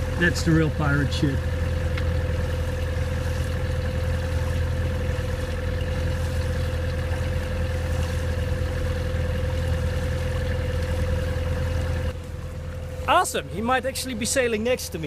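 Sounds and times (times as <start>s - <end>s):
boat motor humming with whine: 0.0s - 15.0s.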